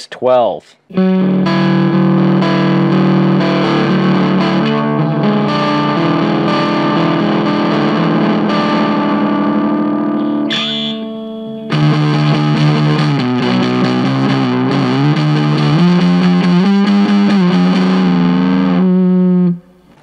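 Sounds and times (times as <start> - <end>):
distorted electric guitar chords: 0.9 - 20.0.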